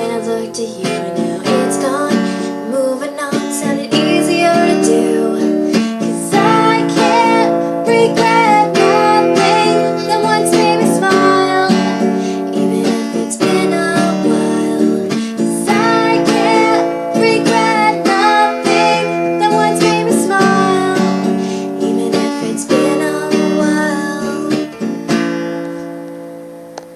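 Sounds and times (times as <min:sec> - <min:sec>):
acoustic guitar strumming: 0:00.0 - 0:26.9.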